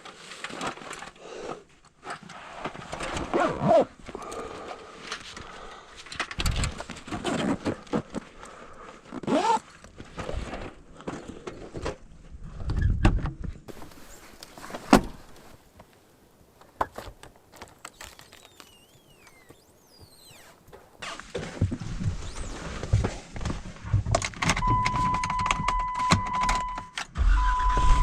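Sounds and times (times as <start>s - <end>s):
gear being handled and packed: 0.0s - 12.0s, 13.7s - 16.0s, 16.6s - 27.0s.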